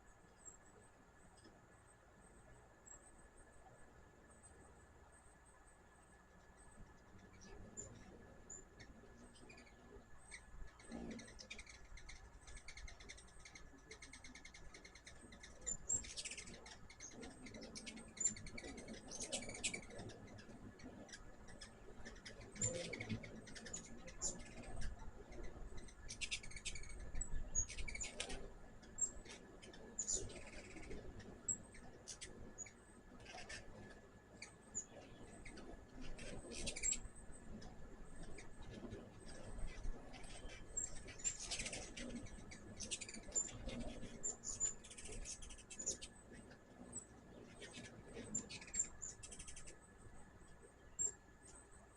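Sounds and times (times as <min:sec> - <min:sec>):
hummingbirds chipping and chattering: 0:00.0 - 0:51.9.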